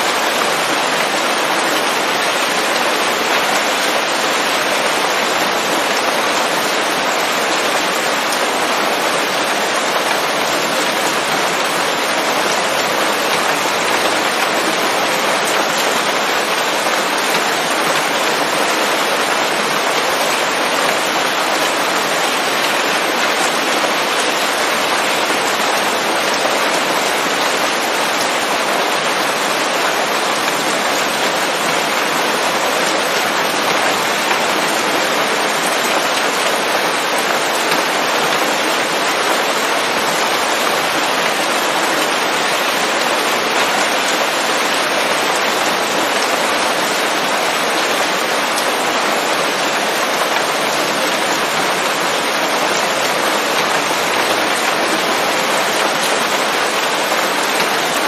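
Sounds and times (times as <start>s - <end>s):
rain pattering on leaves: 0.1s - 58.0s.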